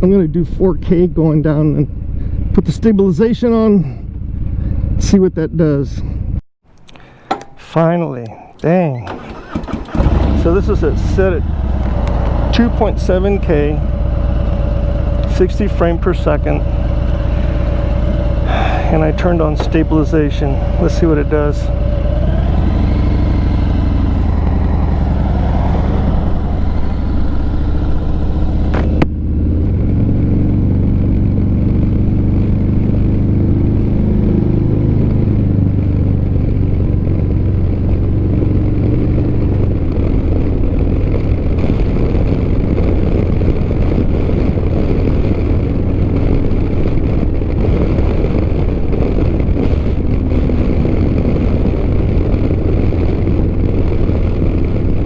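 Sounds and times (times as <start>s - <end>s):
low wind rumble: 0.0s - 55.0s
motorcycle engine accelerating: 9.0s - 55.0s.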